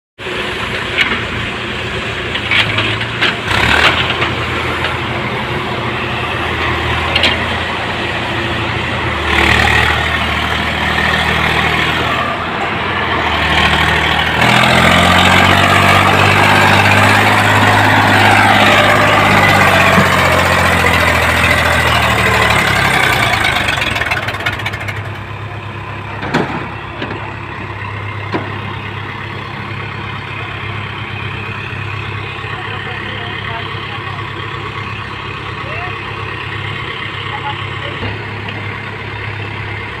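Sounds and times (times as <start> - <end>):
tractor diesel engine running: 0.2 - 40.0.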